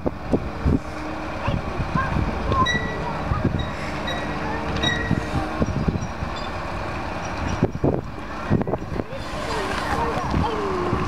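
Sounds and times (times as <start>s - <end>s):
diesel engine running: 0.0s - 11.0s
low bumps: 0.0s - 11.0s.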